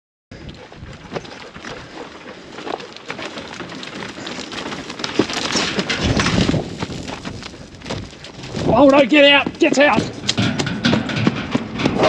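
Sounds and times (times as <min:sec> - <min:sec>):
hooves clattering on dirt: 0:00.3 - 0:12.0
steady rustling: 0:00.3 - 0:12.0.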